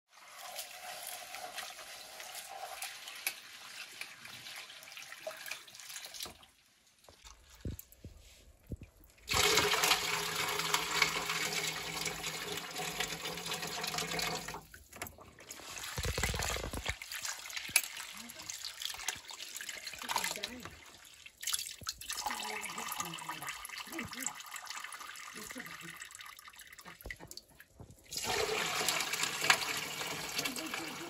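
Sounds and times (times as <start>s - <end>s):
water running into metal bowls: 0.1s - 8.1s, 9.0s - 31.0s.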